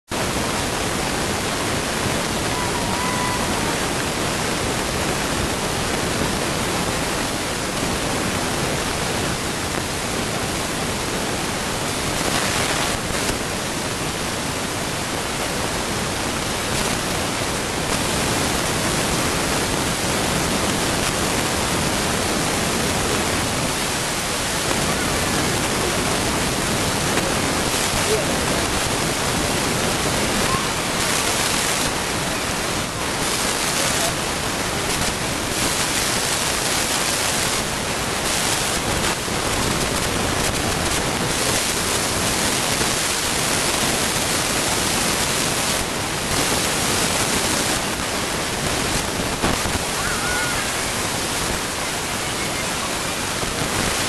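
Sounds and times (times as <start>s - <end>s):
loud steady static hiss: 0.0s - 54.0s.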